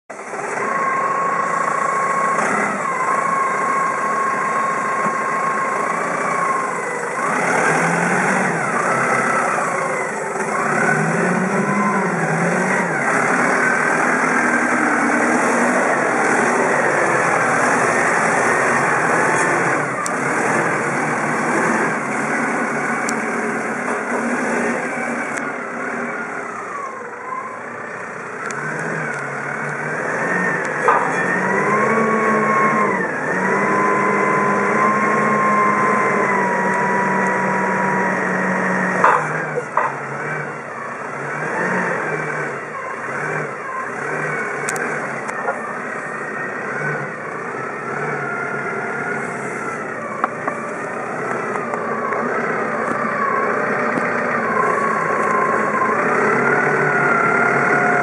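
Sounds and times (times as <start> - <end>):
diesel forklift engine revving: 0.1 - 58.0.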